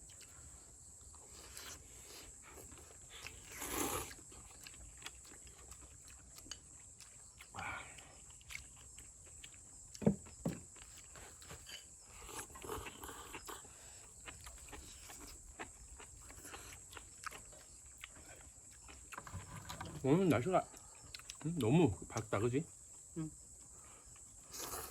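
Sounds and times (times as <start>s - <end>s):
people slurping and chewing: 0.0s - 22.3s, 24.0s - 24.9s.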